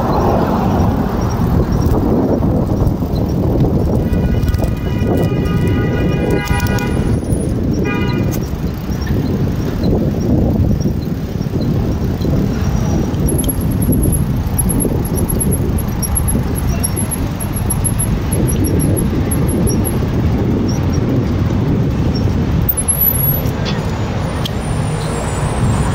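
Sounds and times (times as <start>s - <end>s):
city traffic rumble: 0.0s - 25.9s.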